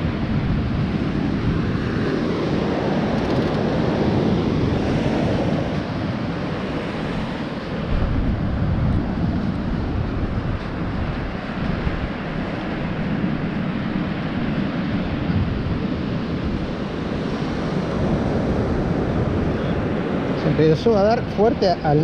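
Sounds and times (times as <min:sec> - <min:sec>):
surf washing on beach: 0:00.0 - 0:22.0
wind buffeting microphone: 0:00.0 - 0:22.0.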